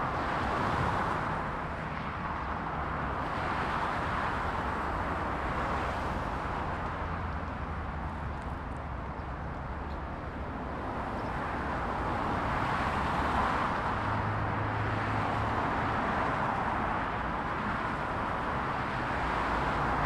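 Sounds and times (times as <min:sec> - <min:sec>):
dense motorway traffic: 0:00.0 - 0:20.0.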